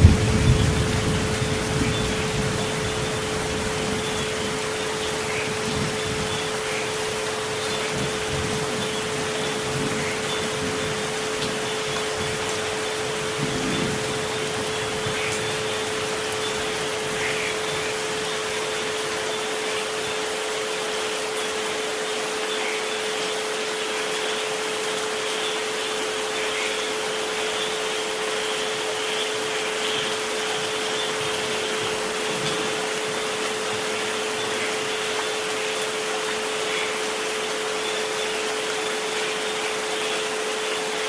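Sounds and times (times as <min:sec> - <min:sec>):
steady rain hiss: 0:00.0 - 0:41.0.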